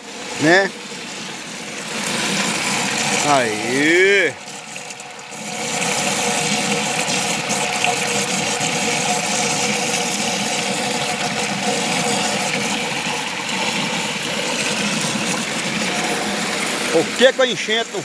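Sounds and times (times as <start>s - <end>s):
water gushing from hose into pool: 0.0s - 18.0s.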